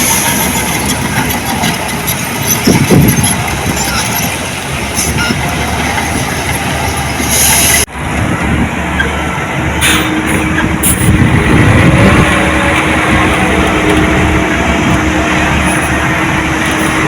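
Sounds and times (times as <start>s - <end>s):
diesel machinery engine: 0.0s - 17.0s.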